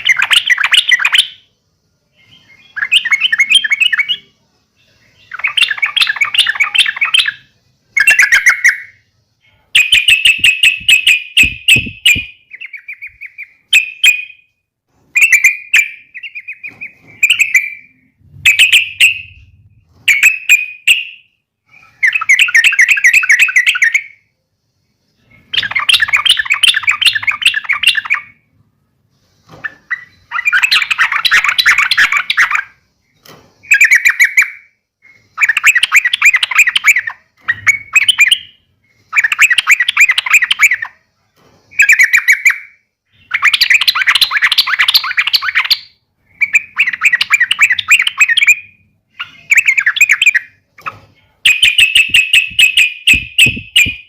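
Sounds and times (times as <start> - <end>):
bird chattering song: 0.0 - 1.5, 2.2 - 14.5, 15.2 - 24.2, 25.2 - 28.4, 29.6 - 32.8, 33.6 - 41.0, 41.7 - 54.0.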